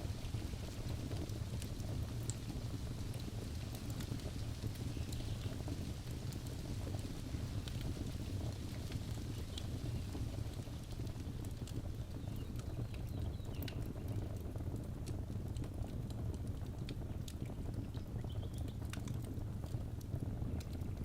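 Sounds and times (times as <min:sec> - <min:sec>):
fire crackling and popping: 0:00.0 - 0:21.0
fire flames rumbling: 0:00.0 - 0:21.0.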